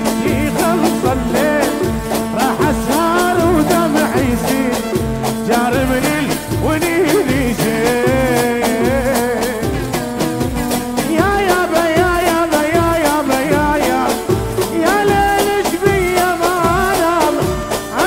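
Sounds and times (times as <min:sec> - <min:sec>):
steady percussion beat: 0:00.0 - 0:18.0.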